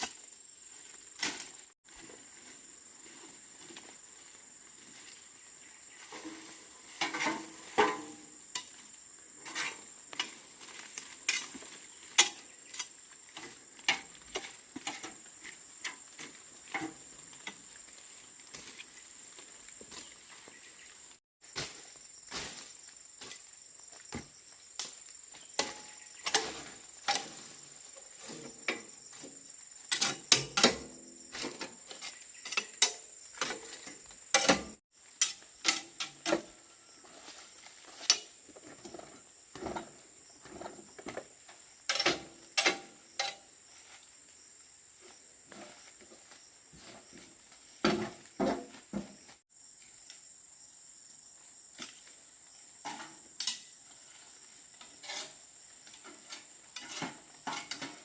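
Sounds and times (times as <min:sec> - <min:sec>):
crickets chirring: 0:00.0 - 0:58.0.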